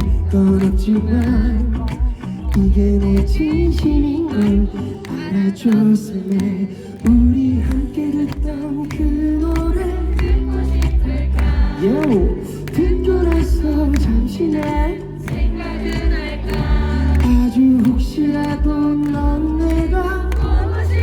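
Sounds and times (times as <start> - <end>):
person singing: 0.0 - 21.0
pop ballad over loudspeakers: 0.0 - 21.0.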